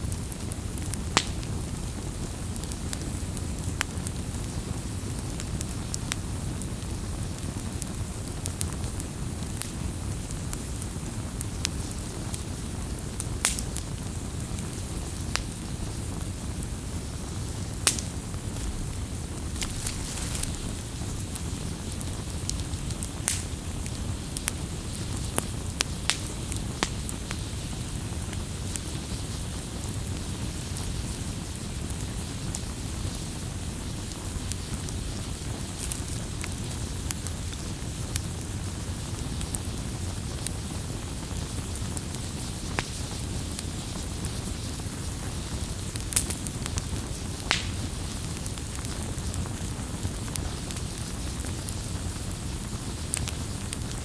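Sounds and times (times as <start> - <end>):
campfire flames rushing: 0.0 - 54.0
fire crackles and pops: 0.0 - 54.0.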